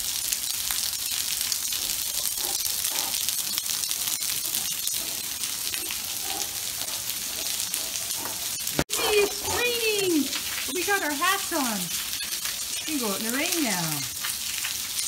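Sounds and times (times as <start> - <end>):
rain on stone paving: 0.0 - 15.0.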